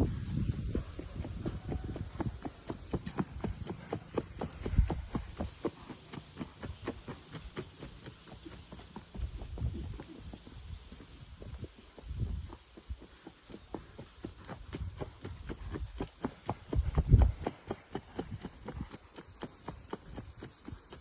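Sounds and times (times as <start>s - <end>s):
horse hoofbeats: 0.2s - 21.0s.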